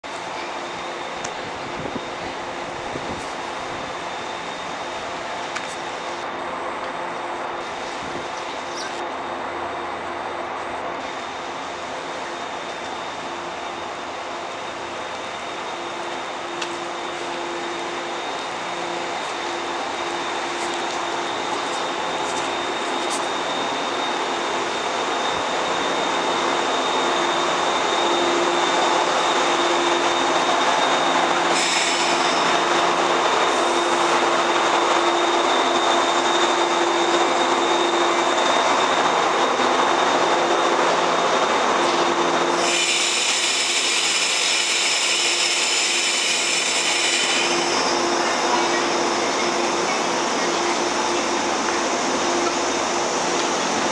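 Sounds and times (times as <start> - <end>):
electric train humming: 0.1 - 53.9.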